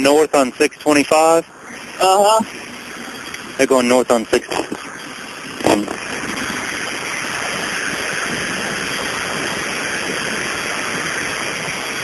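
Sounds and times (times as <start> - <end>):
airplane engine and cabin wind rushing: 0.0 - 12.0.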